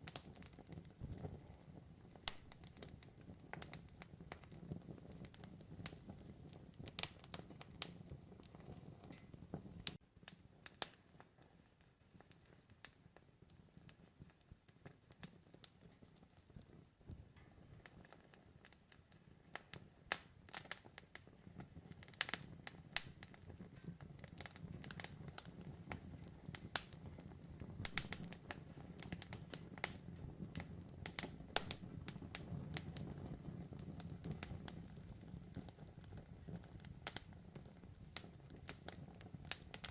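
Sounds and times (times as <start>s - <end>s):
campfire pops and snaps: 0.0s - 39.9s
low rumble of burning: 0.0s - 39.9s.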